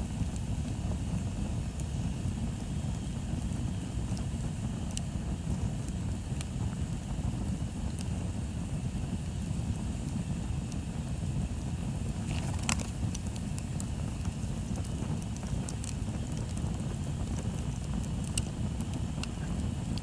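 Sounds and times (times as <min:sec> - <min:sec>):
bonfire flames rushing: 0:00.0 - 0:20.0
burning wood crackling and popping: 0:00.0 - 0:20.0.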